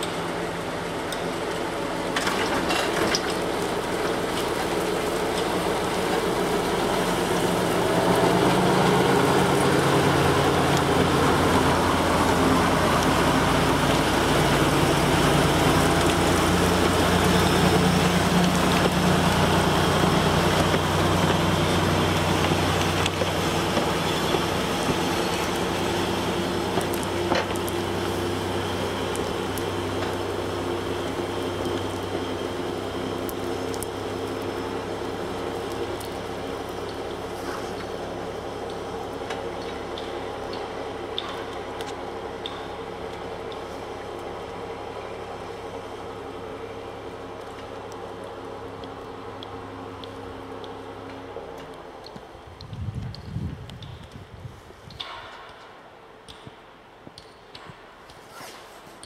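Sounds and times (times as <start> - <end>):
diesel locomotive passing: 3.3 - 52.6.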